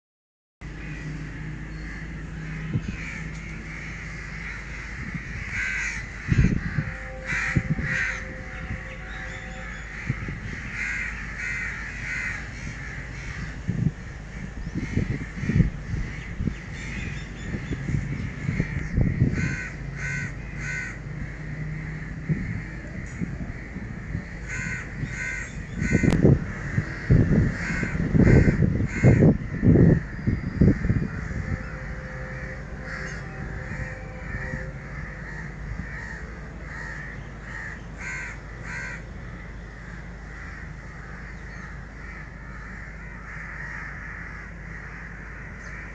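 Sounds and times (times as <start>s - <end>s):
crows cawing: 0.6s - 45.9s.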